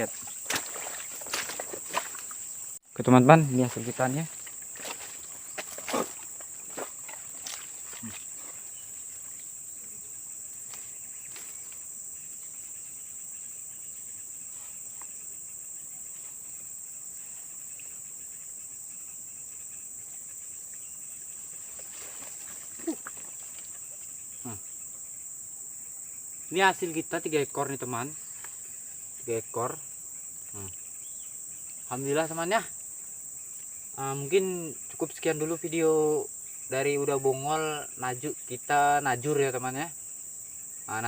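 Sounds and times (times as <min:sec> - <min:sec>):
insects chirring: 0:00.0 - 0:41.0.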